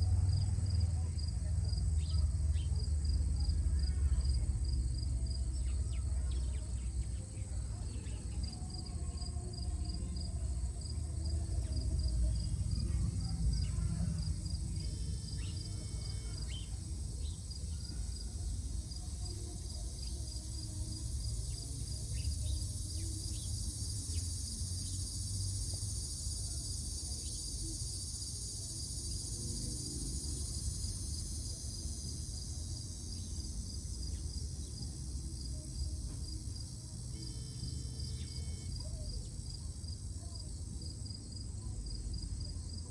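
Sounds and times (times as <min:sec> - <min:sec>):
insects chirping drone: 0:00.0 - 0:42.9.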